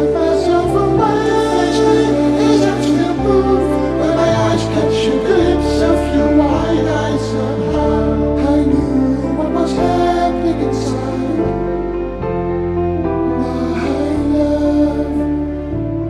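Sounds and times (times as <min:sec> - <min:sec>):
slow background music: 0:00.0 - 0:16.0.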